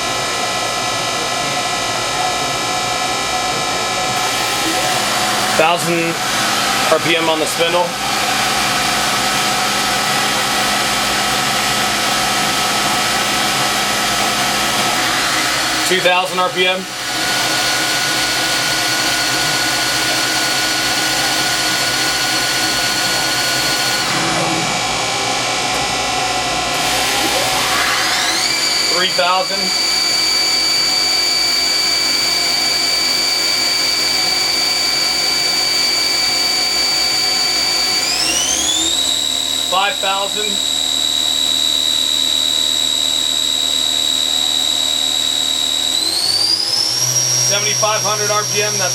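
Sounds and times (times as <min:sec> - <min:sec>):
machine spindle whine: 0:00.0 - 0:48.9.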